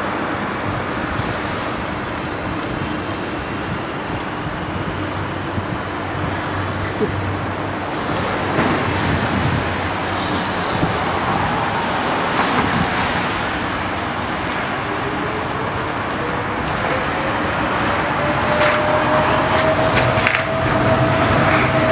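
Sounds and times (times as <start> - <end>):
monorail train rumble: 0.0 - 21.9.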